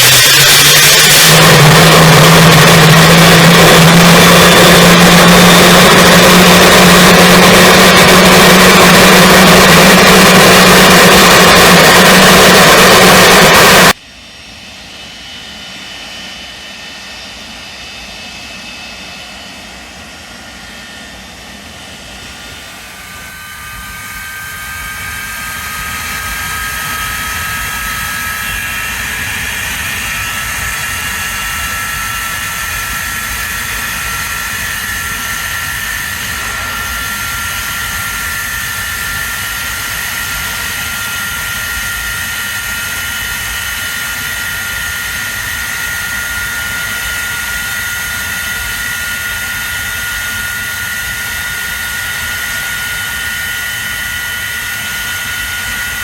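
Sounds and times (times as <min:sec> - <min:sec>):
jet engine whine and roar: 0:00.0 - 0:56.0.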